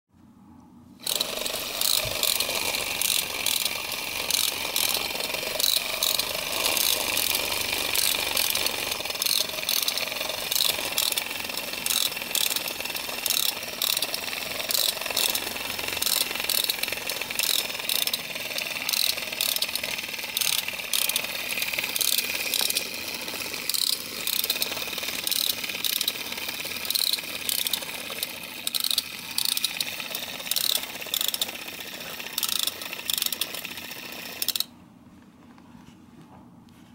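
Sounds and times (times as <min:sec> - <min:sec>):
clockwork toy whirring: 0:01.0 - 0:34.7
quick repeated clicking: 0:01.0 - 0:34.7.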